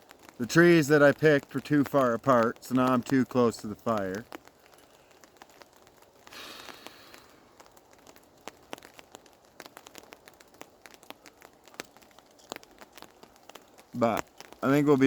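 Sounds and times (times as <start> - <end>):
campfire crackling: 0.0 - 15.0
rain falling on a tarp: 0.0 - 15.0
soft rustling hiss: 0.0 - 15.0.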